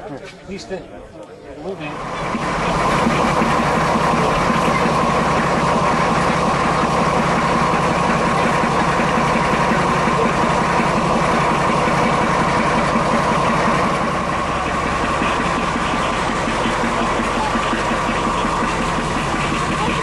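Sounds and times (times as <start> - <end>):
diesel locomotive engine idling: 1.7 - 20.0
constant whine: 1.8 - 20.0.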